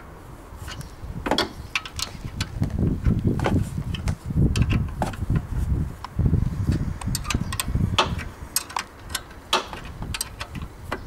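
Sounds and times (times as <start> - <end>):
low rumbling handling noise: 0.0 - 11.0.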